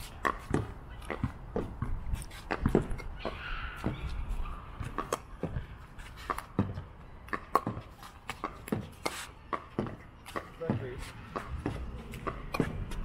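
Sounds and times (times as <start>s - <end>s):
ball bouncing on court: 0.2s - 13.0s.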